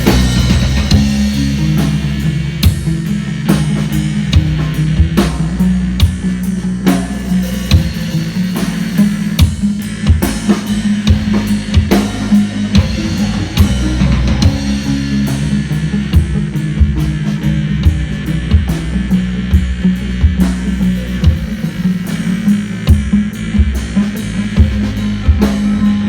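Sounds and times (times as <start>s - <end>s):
bass drum and snare beat: 0.0s - 26.0s
live rock band playing: 0.0s - 26.0s.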